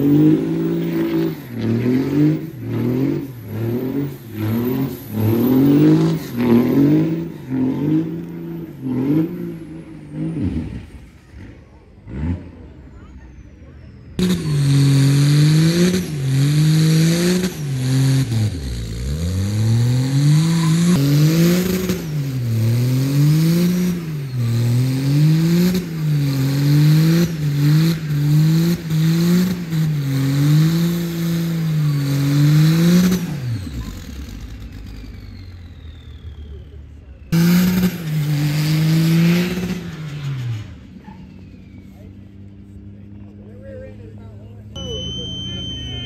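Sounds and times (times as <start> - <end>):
tires spinning: 0.0 - 46.0
truck engine revving: 0.0 - 46.0.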